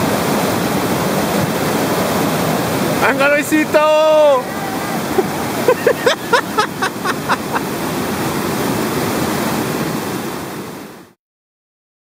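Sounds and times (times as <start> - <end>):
whitewater river roaring: 0.0 - 11.2.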